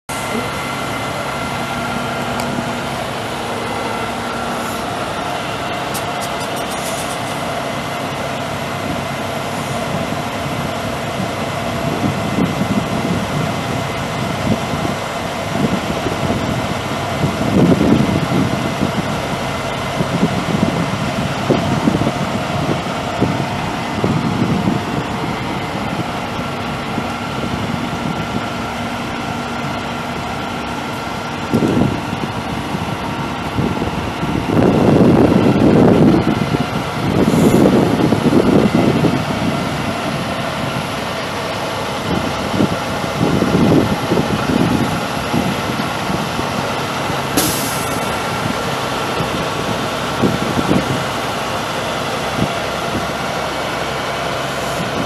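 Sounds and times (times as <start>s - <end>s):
low engine rumbles: 0.0s - 55.0s
diesel truck engine idling: 0.1s - 55.0s.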